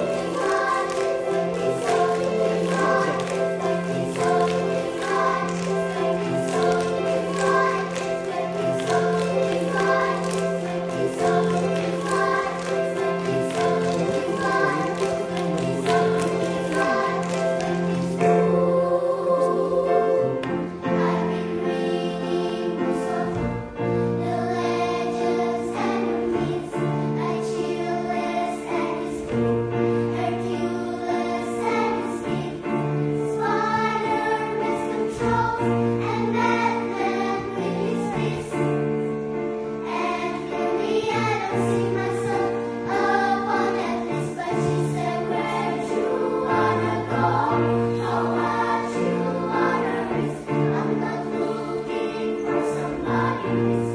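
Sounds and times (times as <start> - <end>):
choir singing: 0.0 - 53.9.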